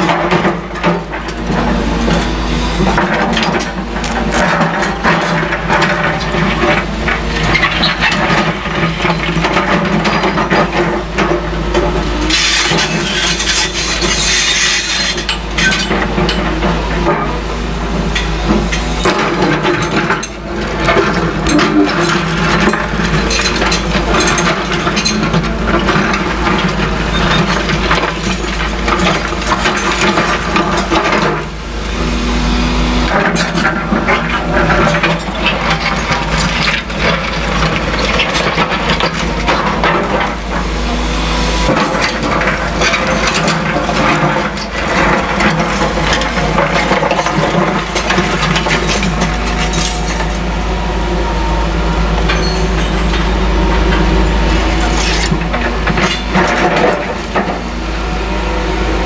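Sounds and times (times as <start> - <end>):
rubble crunching and clattering: 0.0 - 17.4, 18.0 - 31.5, 33.1 - 40.6, 41.7 - 50.5, 52.2 - 57.6
diesel engines running: 0.0 - 59.0.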